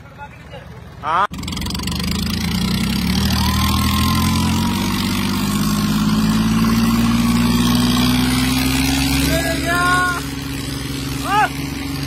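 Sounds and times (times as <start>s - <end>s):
tractor engines under load: 0.0s - 12.0s.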